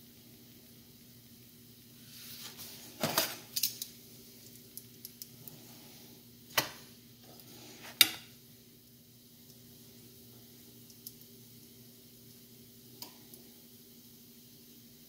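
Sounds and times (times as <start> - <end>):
bread sizzling in oil: 0.0 - 15.0.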